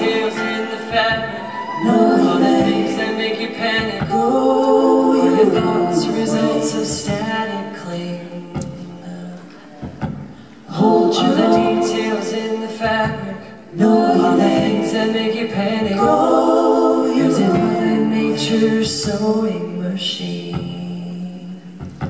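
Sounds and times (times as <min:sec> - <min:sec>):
voices singing in harmony: 0:00.0 - 0:22.0.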